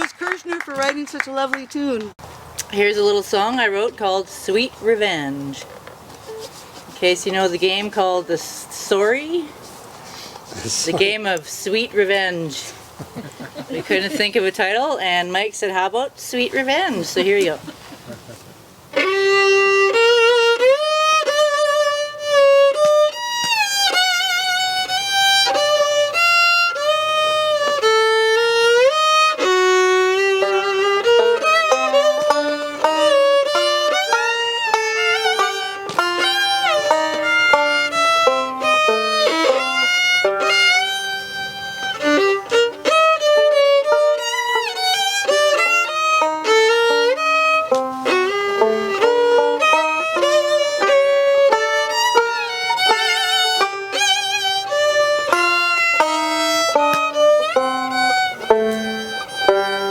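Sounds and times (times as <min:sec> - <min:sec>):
fiddle playing a tune: 0:00.0 - 0:59.9.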